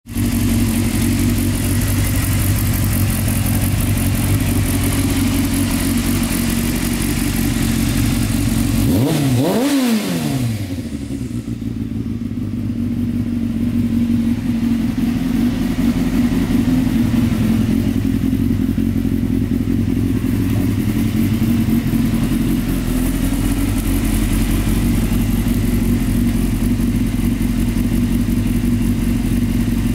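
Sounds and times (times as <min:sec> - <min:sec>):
motorcycle engine idling: 0:00.1 - 0:29.9.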